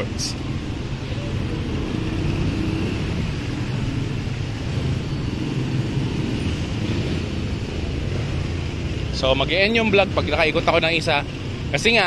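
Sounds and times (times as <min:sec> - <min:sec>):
road traffic with low rumble: 0:00.0 - 0:12.0.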